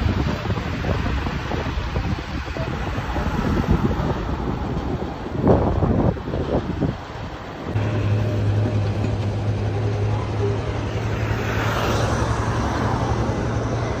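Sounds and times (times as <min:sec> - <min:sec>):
steady low traffic hum: 0:00.0 - 0:14.0.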